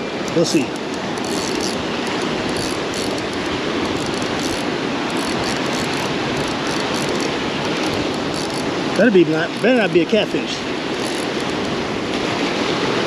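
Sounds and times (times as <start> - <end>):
waves breaking against rocks: 0.0 - 13.0.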